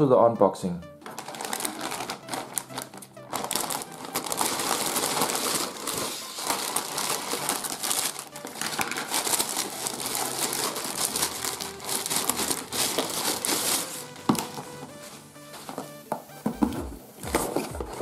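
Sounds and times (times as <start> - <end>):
plastic packaging crinkling: 1.0 - 18.0.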